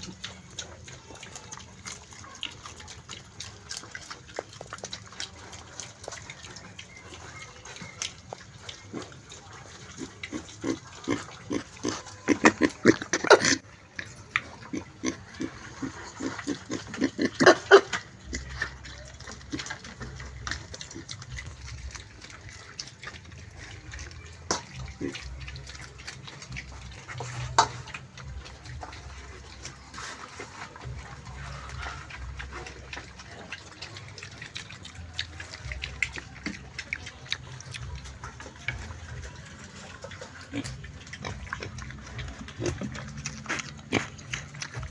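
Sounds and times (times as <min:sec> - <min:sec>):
pig grunting: 0:00.0 - 0:44.9.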